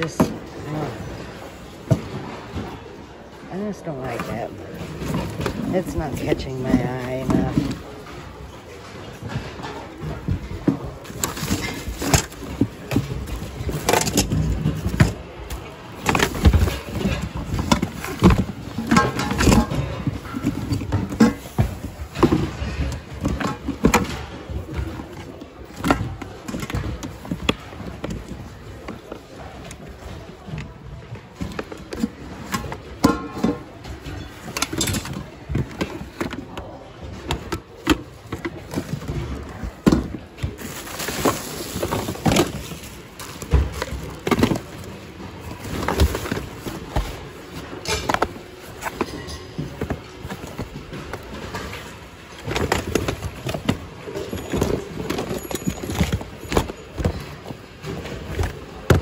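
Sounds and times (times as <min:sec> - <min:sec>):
plastic and cardboard items clattering: 0:00.0 - 0:59.0.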